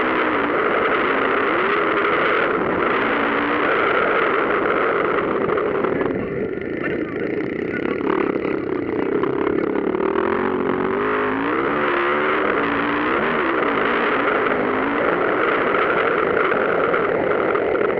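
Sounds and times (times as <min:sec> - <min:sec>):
motorcycle engines revving: 0:00.0 - 0:17.9.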